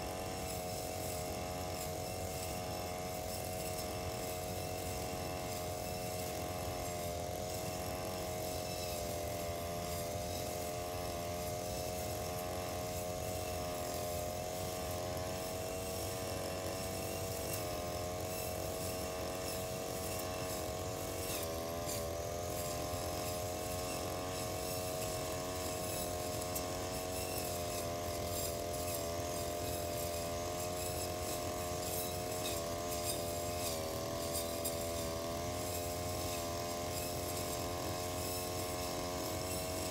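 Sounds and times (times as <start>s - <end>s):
brush cutter buzzing: 0.0s - 39.9s.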